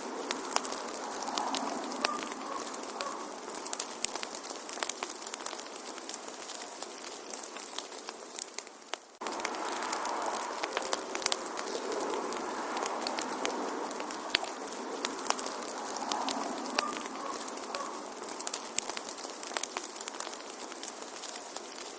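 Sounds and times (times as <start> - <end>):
sharp pops of burning wood: 0.0 - 21.9
steady fire hiss: 0.0 - 21.9
wood fire crackling: 0.0 - 21.9.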